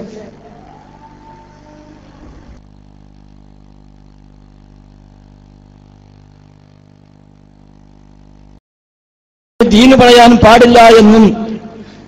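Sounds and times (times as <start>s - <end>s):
sound system buzzing hum: 0.0s - 8.6s, 9.6s - 12.0s.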